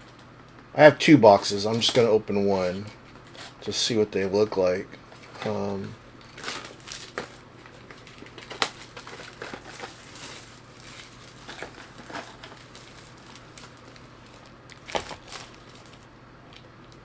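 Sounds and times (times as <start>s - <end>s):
plastic wrap crinkling: 1.2s - 3.8s, 5.0s - 17.0s.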